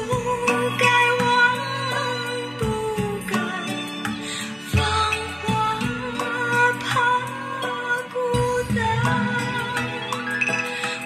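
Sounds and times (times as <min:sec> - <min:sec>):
music through loudspeakers: 0:00.0 - 0:11.0.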